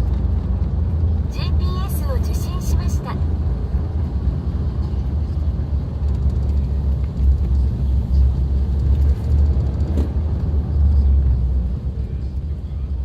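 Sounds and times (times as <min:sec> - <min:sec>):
engine and tyres rumbling on gravel: 0:00.0 - 0:02.2, 0:02.8 - 0:13.0.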